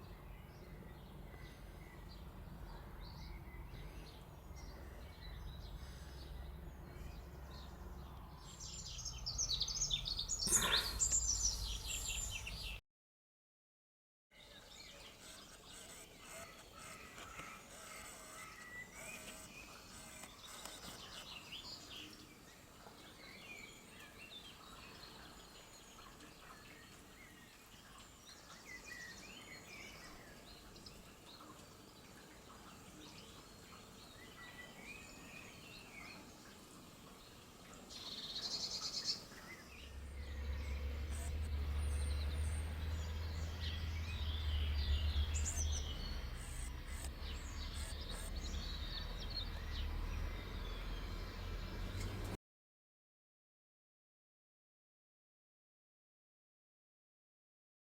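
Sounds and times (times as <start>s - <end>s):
songbirds singing: 0.0s - 12.8s, 14.4s - 52.4s
fast trilling birdsong: 1.4s - 12.8s, 14.5s - 31.2s, 31.8s - 52.4s.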